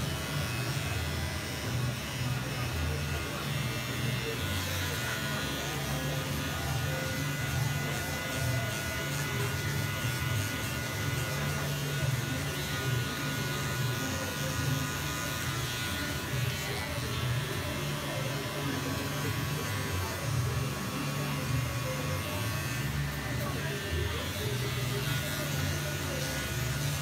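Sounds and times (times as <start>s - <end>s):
hair clippers buzzing: 0.0s - 27.0s.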